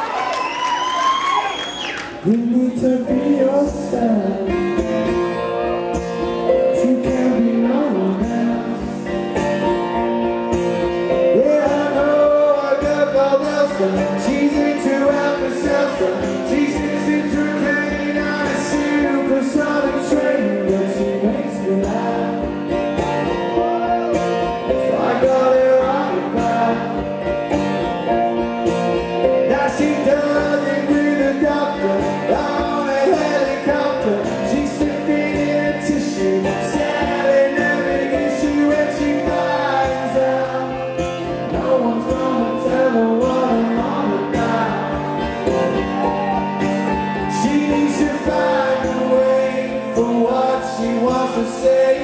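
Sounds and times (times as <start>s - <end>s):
live rock band playing: 2.1s - 52.0s.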